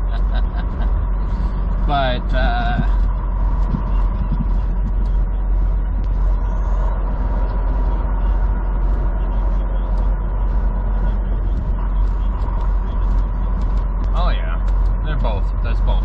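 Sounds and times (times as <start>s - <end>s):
diesel truck engine rumbling: 0.0s - 16.0s
faint regular ticking: 1.3s - 15.8s.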